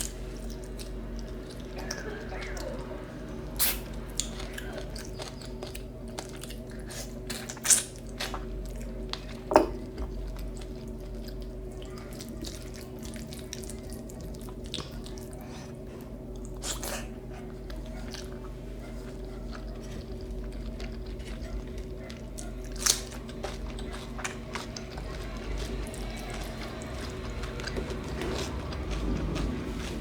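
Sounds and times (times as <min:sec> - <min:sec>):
person chewing food: 0:00.0 - 0:30.0
steady low hum: 0:00.0 - 0:30.0.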